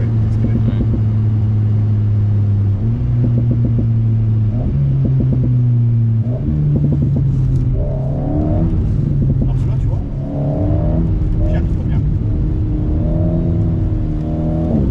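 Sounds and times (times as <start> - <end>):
car engine running hard: 0.0 - 14.9.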